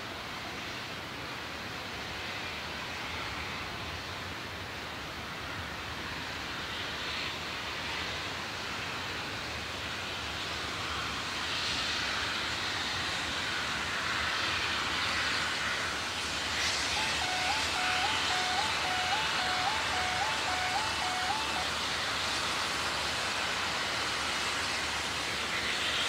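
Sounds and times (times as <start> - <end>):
train rushing: 0.0 - 26.0.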